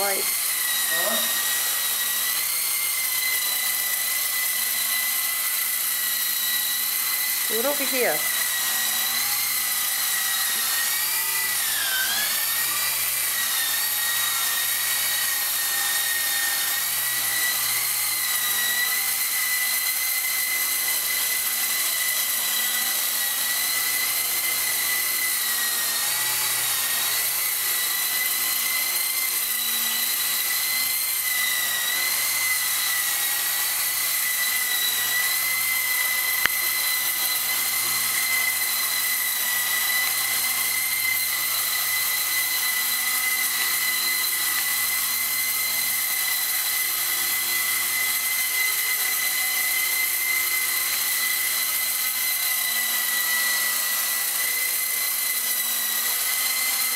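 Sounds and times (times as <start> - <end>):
electric motor whine: 0.0 - 56.9.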